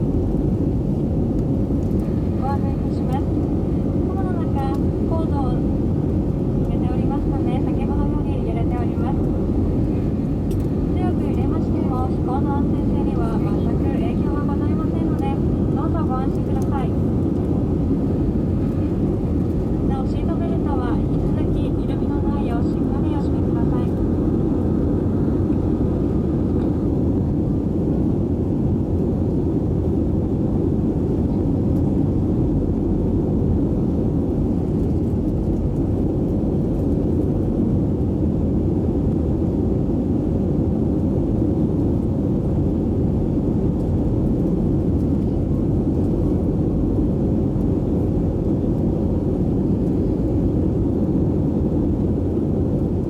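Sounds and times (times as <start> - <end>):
airliner cabin engine roar: 0.0 - 53.0.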